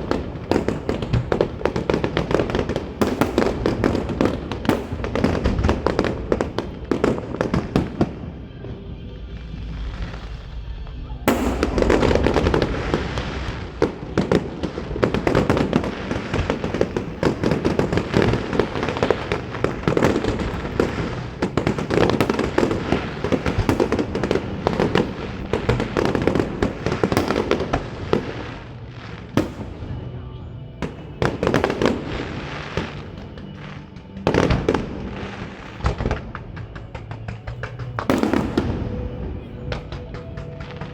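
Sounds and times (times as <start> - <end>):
fireworks bursting and crackling: 0.0 - 40.9.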